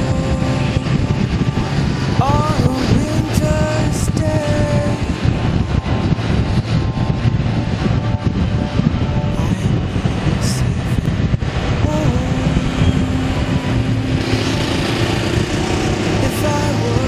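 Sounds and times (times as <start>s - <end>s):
vehicle engine running: 0.0s - 17.0s
wind and road noise: 0.0s - 17.0s.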